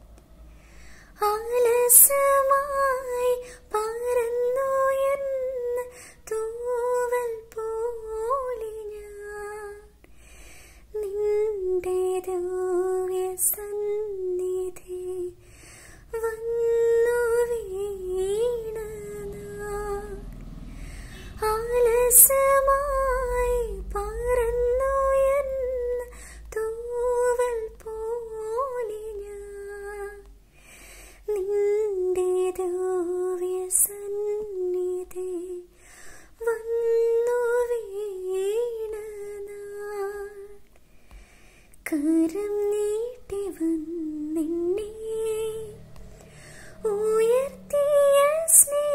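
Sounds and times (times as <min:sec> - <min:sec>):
woman singing unaccompanied: 0:01.1 - 0:10.1, 0:10.9 - 0:30.4, 0:31.2 - 0:35.7, 0:36.3 - 0:40.6, 0:41.8 - 0:48.9.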